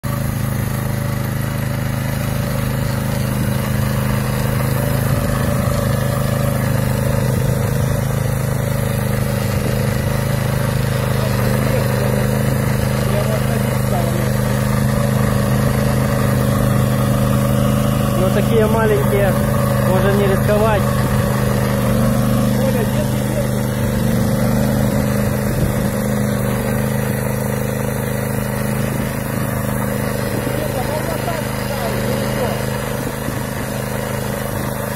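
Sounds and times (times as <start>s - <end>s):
rotary tiller churning soil: 0.0s - 34.9s
walking tractor engine running: 0.0s - 34.9s.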